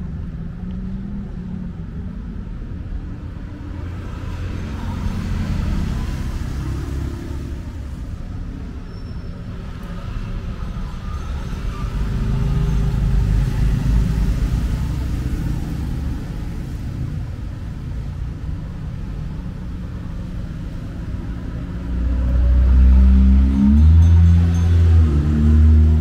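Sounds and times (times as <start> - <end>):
vehicle rumble and road noise: 0.0 - 26.0.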